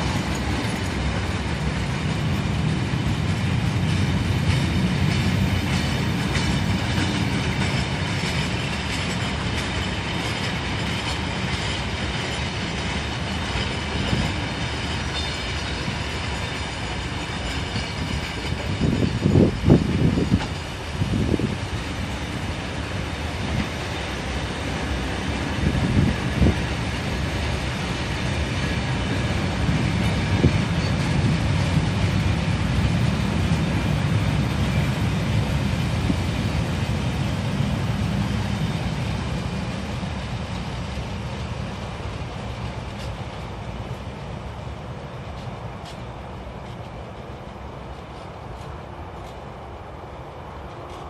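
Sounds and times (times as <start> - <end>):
wheels clattering over rail joints: 0.0 - 49.5
freight wagons rolling on track: 0.0 - 51.0.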